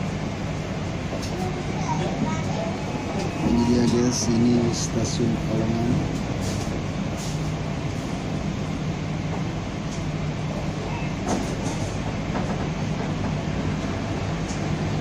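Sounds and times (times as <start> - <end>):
train rumble inside coach: 0.0 - 15.0.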